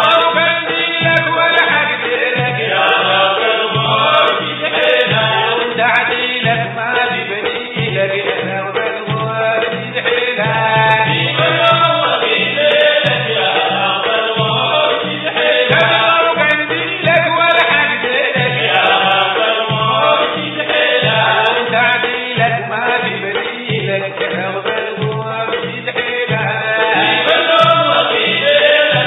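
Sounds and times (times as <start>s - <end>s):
men singing together: 0.0s - 29.0s.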